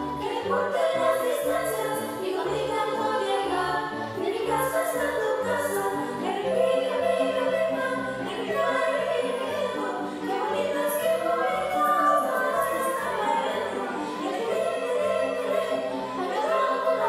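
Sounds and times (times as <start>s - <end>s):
children's choir singing: 0.0s - 17.0s
low musical backing: 0.0s - 17.0s.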